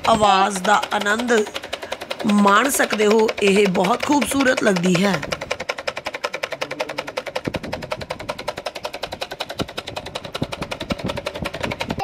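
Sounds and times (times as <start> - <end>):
toy boat motor ticking: 0.0 - 12.0.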